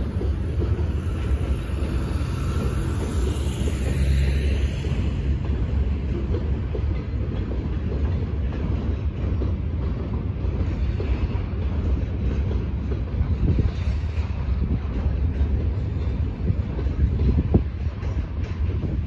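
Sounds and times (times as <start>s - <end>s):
train wagons rumbling: 0.0s - 19.0s
wheels clattering over rail joints: 0.0s - 19.0s.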